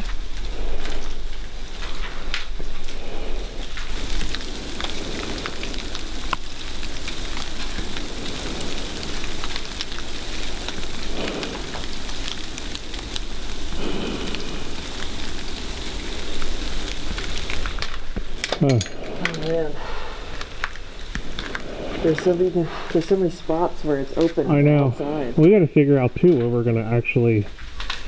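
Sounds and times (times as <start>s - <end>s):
freezing rain pattering: 0.0s - 28.0s.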